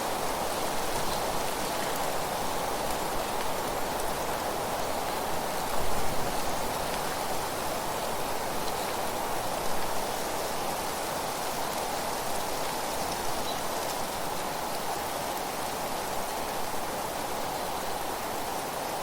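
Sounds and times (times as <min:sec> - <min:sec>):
wind rustling leaves: 0:00.0 - 0:19.0.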